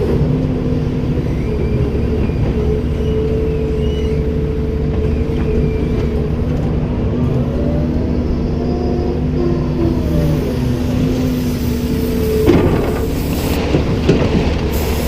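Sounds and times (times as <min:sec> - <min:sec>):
excavator engine drone: 0:00.0 - 0:15.0.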